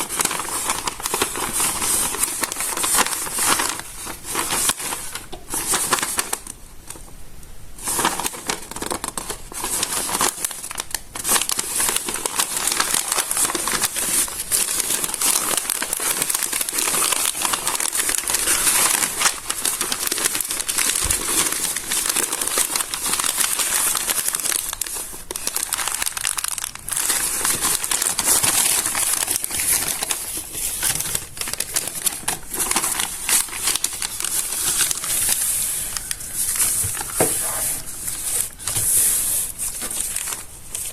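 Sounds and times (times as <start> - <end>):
paper pages crinkling: 0.0 - 7.0, 7.8 - 40.9.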